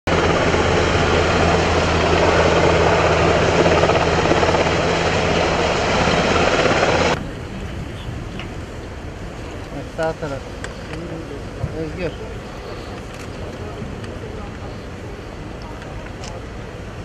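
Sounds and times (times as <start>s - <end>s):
helicopter rotor and engine: 0.1s - 17.0s
low hum: 0.1s - 17.0s.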